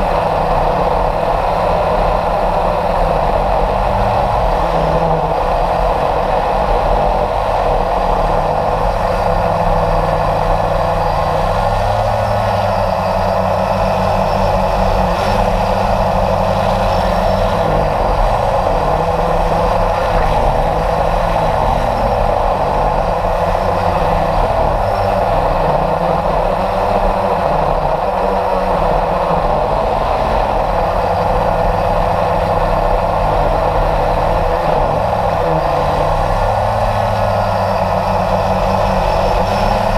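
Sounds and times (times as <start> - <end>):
model jet motor: 0.0 - 39.9.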